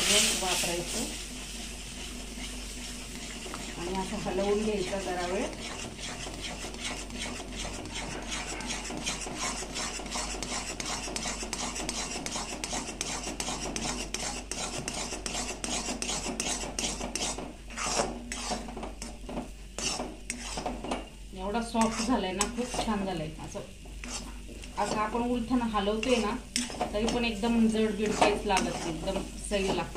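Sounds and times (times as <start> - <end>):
metal spatula scraping a pot: 0.0 - 29.9.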